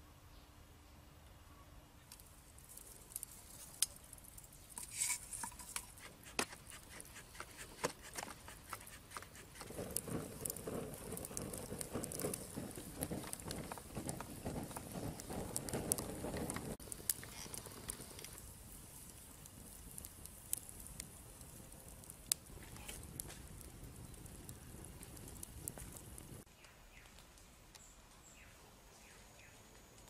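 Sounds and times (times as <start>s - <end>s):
low rushing of flames: 2.0s - 30.0s
wood fire crackling and popping: 2.1s - 28.3s.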